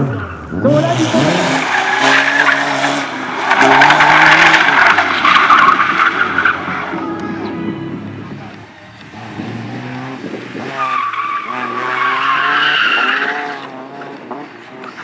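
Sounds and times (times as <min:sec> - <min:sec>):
race car engine revving: 0:00.0 - 0:06.9, 0:08.4 - 0:15.0
tyres skidding and squealing: 0:00.0 - 0:15.0.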